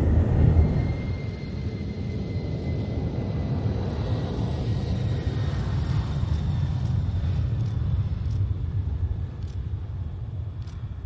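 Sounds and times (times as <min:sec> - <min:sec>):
high jet whine: 0:00.0 - 0:11.0
jet engines rumbling: 0:00.0 - 0:11.0.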